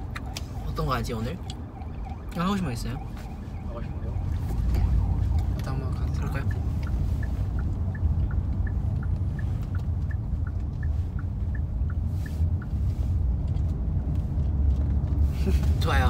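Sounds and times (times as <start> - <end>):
turn signal clicking: 0.0 - 3.4, 4.2 - 15.2
road rumble inside car: 0.0 - 16.0.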